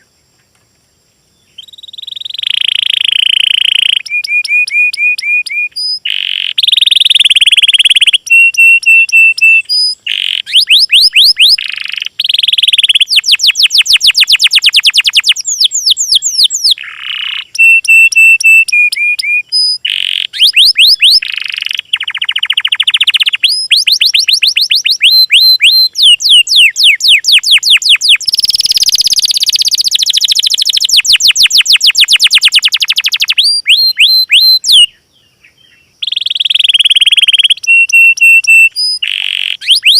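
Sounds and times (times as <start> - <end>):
songbird song: 0.0 - 39.9.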